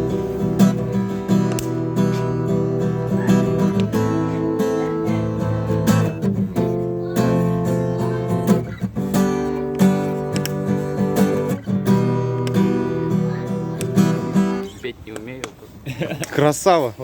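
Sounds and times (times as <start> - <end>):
strummed acoustic guitar: 0.0 - 14.7.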